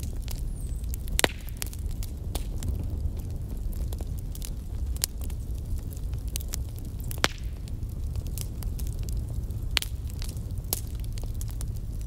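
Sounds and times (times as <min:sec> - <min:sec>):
fire crackling and popping: 0:00.0 - 0:12.0
fire flames rumbling: 0:00.0 - 0:12.0.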